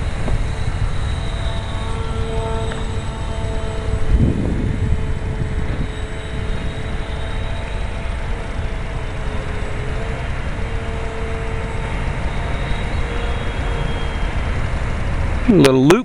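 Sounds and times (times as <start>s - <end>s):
model plane motor whining: 0.0s - 15.4s
wind on microphone: 0.0s - 15.6s.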